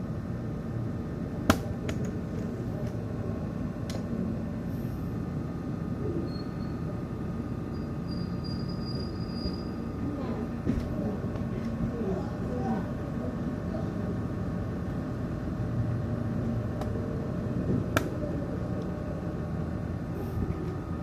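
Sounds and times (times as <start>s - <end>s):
computer fan humming: 0.0s - 21.0s.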